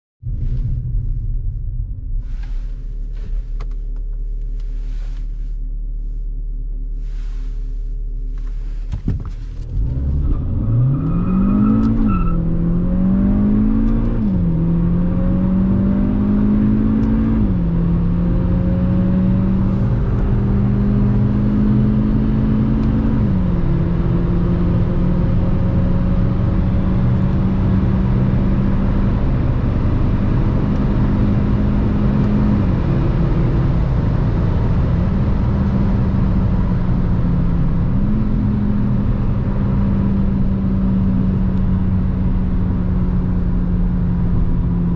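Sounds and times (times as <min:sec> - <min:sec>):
car engine accelerating hard: 0:08.3 - 0:44.9.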